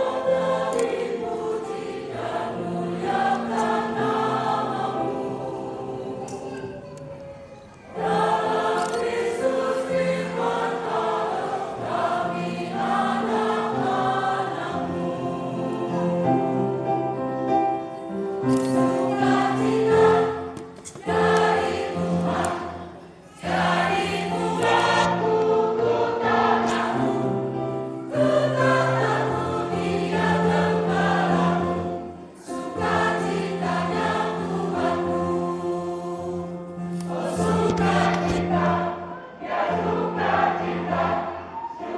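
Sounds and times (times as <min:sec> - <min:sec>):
choir singing a hymn: 0:00.0 - 0:41.9.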